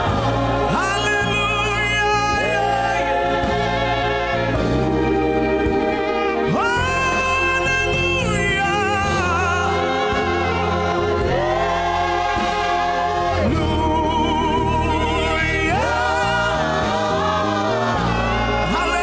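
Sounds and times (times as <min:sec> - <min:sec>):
bass accompaniment: 0:00.0 - 0:19.0.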